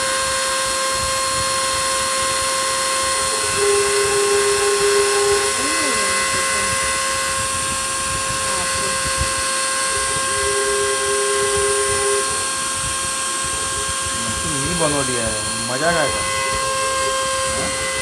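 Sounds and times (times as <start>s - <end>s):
cnc router spindle whining: 0.0s - 18.0s
high hiss of cutting: 0.0s - 18.0s
lower tone: 0.0s - 18.0s.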